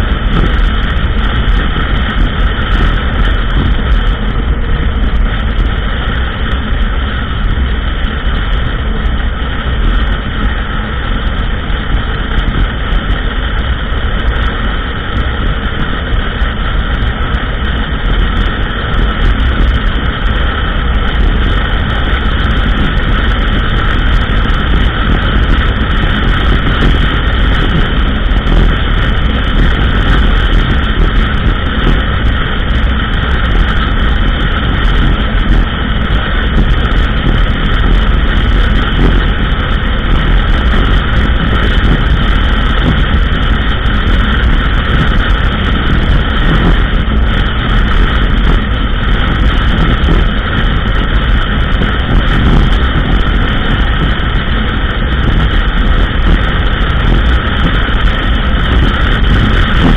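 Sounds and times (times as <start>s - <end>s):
atv engine rumbling: 0.0s - 59.9s.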